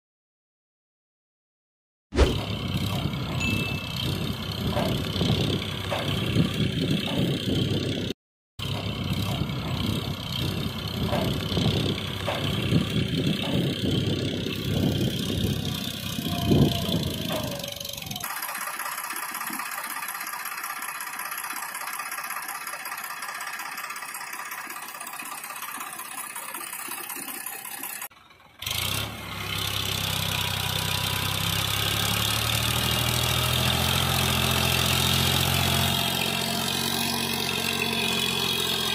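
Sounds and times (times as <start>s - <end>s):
engine running: 2.2s - 38.9s.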